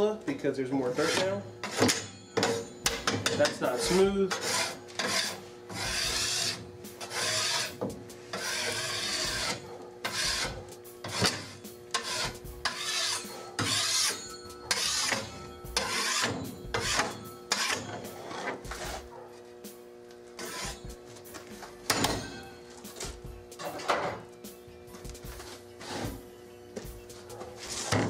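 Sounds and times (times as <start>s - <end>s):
metal spatula scraping plywood: 0.8s - 19.3s, 20.3s - 24.3s, 24.9s - 26.3s, 27.3s - 28.0s.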